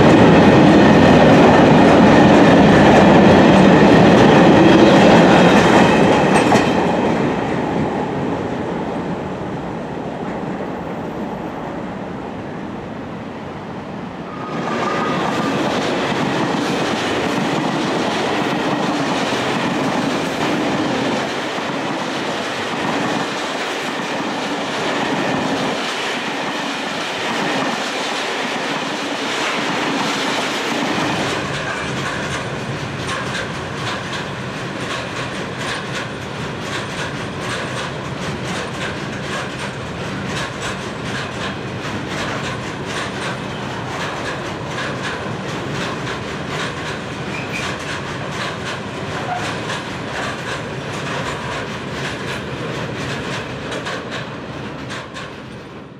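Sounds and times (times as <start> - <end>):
train wheels clicking over rail joints: 0.0 - 7.9, 15.3 - 55.6.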